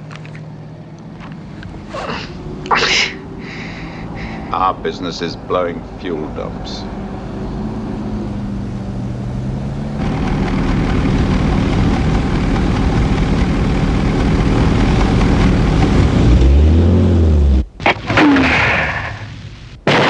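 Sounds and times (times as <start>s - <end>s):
propeller aircraft engine drone: 0.0s - 19.8s.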